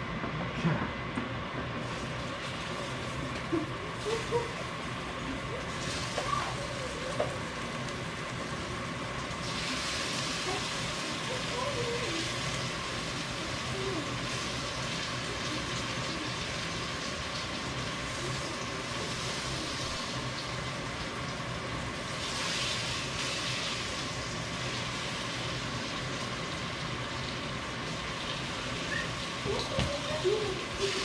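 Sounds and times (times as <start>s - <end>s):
food sizzling in oil: 1.8s - 31.0s.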